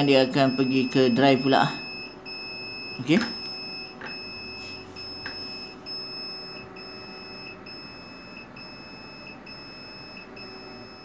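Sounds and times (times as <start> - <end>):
autoclave buzzer beeping: 0.0 - 11.0.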